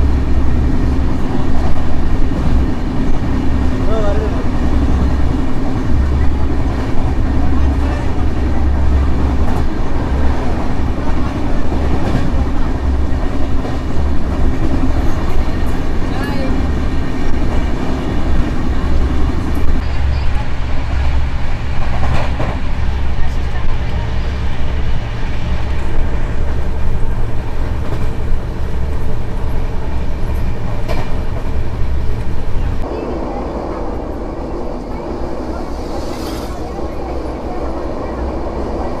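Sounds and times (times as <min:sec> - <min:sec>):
train rumbling at speed: 0:00.0 - 0:39.0.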